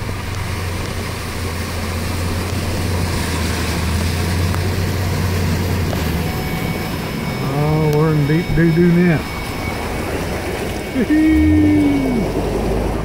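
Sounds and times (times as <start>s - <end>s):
truck engine drone: 0.0s - 13.0s
water rushing: 0.0s - 13.0s.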